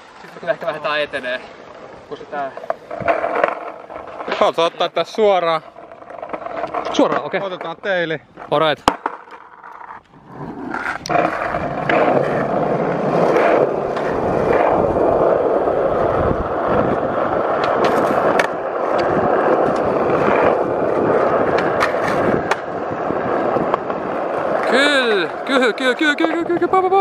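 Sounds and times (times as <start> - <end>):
skateboard wheels rolling on asphalt: 0.0 - 27.0
skateboard clacks: 1.7 - 27.0.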